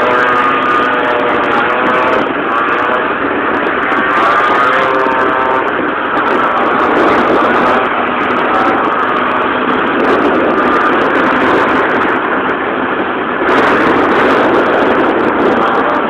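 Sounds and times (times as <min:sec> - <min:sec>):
small motorbike engine running hard: 0:00.0 - 0:16.0.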